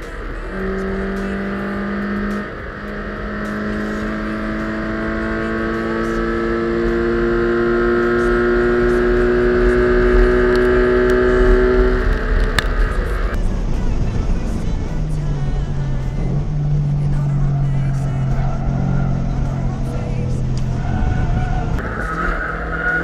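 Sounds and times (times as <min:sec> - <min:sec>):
car engine at full throttle: 0:00.0 - 0:23.0.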